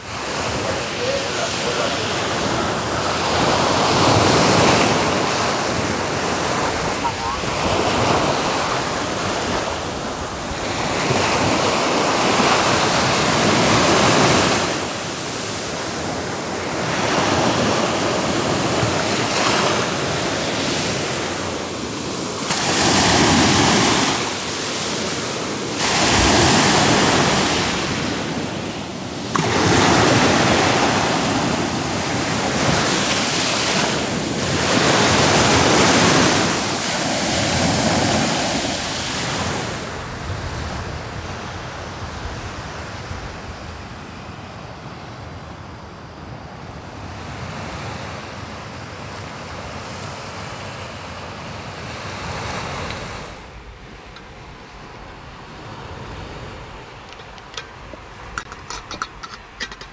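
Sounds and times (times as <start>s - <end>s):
small waves washing up beach: 0.0s - 59.9s.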